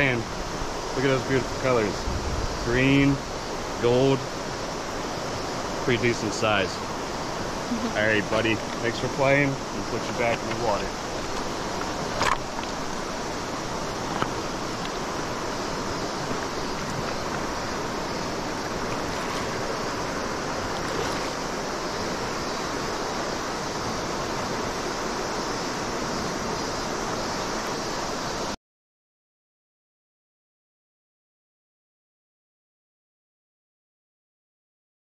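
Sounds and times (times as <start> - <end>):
river running over stones: 0.0 - 28.6.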